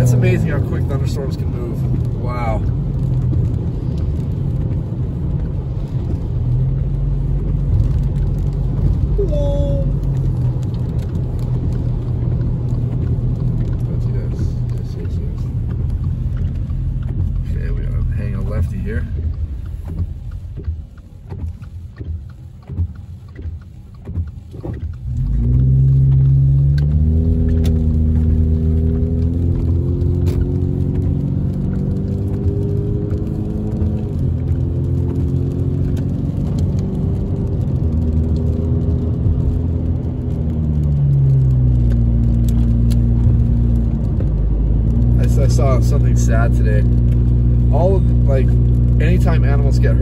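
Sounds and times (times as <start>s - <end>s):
car engine drone: 0.0s - 50.0s
road noise on wet road: 0.0s - 50.0s.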